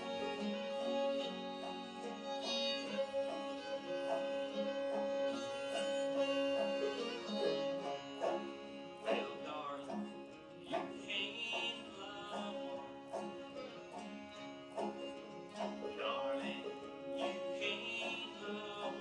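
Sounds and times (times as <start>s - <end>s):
bluegrass string band playing: 0.0s - 19.0s.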